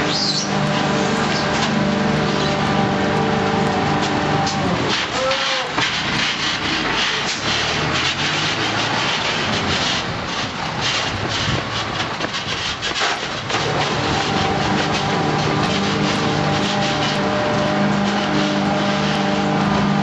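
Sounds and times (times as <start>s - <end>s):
garbage truck running: 0.0s - 20.0s
truck engine: 0.0s - 20.0s.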